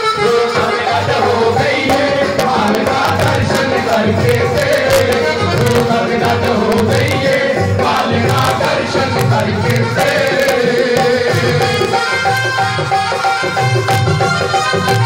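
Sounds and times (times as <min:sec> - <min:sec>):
man singing through microphone: 0:00.0 - 0:12.4
sustained instrumental tones: 0:00.0 - 0:15.0
hand drum rhythm: 0:00.1 - 0:15.0.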